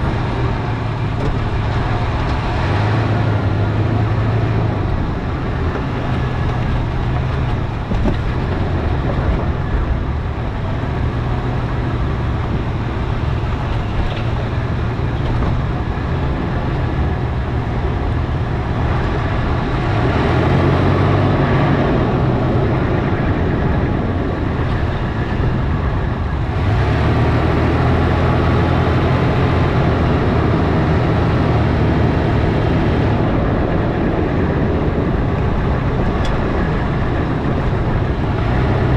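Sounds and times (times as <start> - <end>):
engine hum: 0.0 - 38.9.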